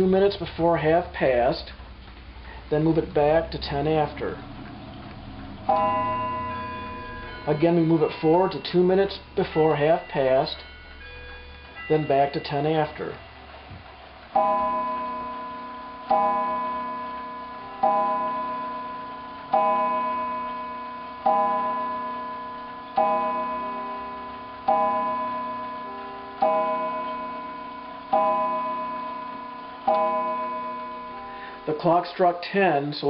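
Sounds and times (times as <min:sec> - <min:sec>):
clock striking gong: 0:03.8 - 0:31.7.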